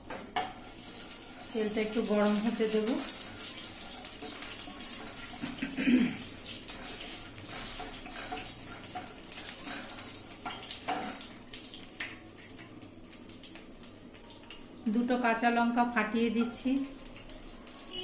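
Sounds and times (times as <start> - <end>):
oil sizzling: 0.0 - 18.0.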